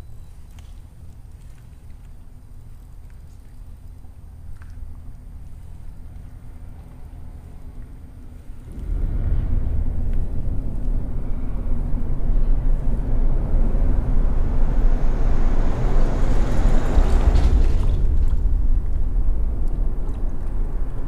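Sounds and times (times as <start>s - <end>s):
traffic rumbling overhead: 0.0s - 21.0s.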